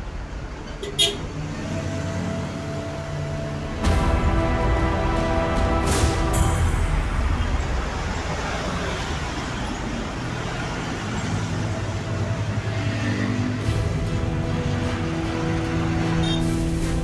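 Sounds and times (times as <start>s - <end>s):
large vehicle passing: 0.0s - 17.0s.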